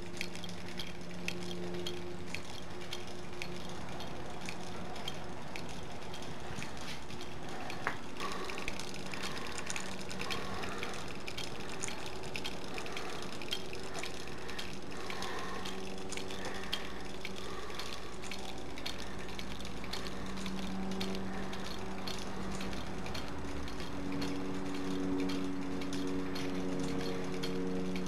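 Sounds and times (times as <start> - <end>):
clockwork mechanism clicking and rattling: 0.0 - 28.0
steady low hum: 0.0 - 28.0.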